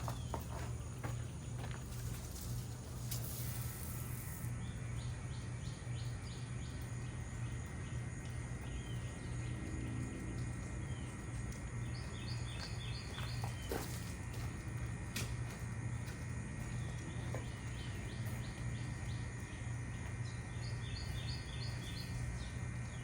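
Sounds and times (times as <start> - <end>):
songbird chirping: 0.0 - 23.0
steady low hum: 0.0 - 23.0.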